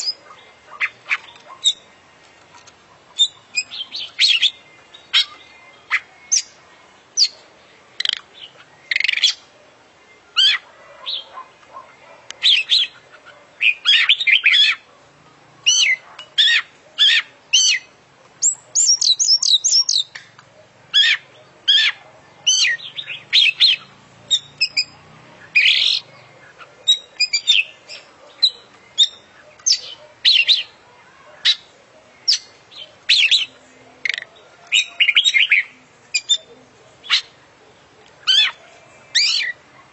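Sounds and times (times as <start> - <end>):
magpie-robin singing: 0.0 - 9.6, 10.3 - 39.7.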